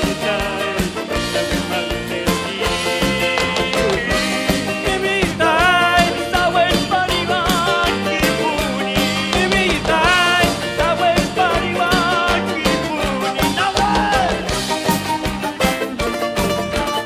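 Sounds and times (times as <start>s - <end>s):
folk band playing: 0.0s - 17.0s.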